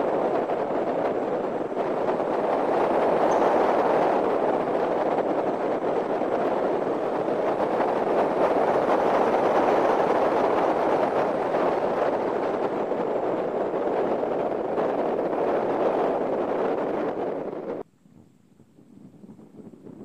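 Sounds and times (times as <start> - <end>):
road and wind noise: 0.0 - 17.9.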